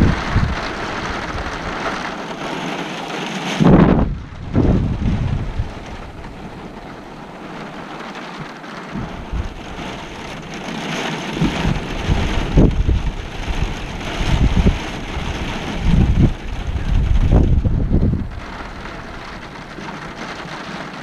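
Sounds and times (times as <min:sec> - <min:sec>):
low rumbling: 0:00.0 - 0:02.1, 0:03.6 - 0:08.1, 0:08.8 - 0:20.5
steady rain: 0:00.0 - 0:21.0.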